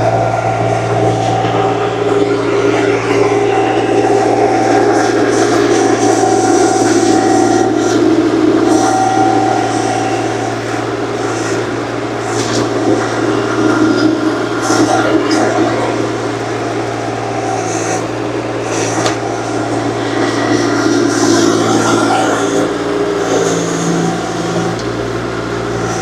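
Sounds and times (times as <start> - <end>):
digger engine running: 0.0 - 26.0
high scraping squeals: 0.0 - 26.0.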